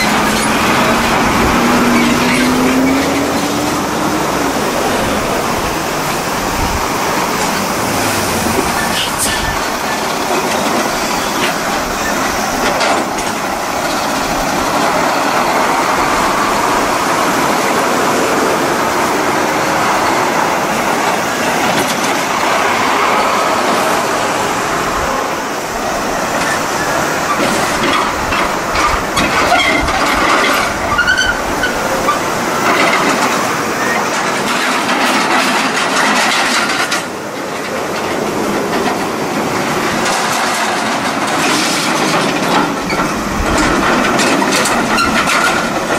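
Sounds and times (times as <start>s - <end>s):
diesel truck engines: 0.0s - 45.9s
trailers rattling: 0.0s - 45.9s.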